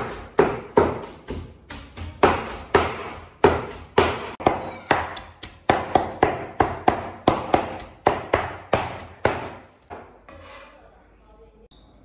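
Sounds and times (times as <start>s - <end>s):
cleaver chopping on wooden board: 0.0s - 9.6s.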